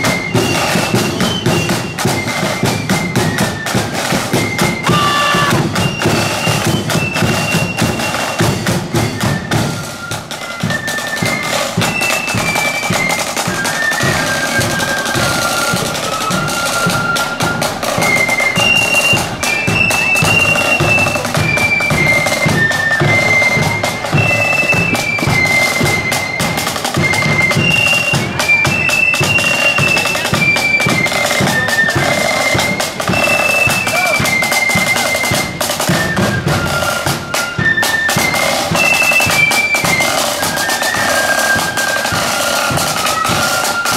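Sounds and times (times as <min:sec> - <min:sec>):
massed flutes melody: 0:00.0 - 0:43.9
side drums: 0:00.0 - 0:43.9.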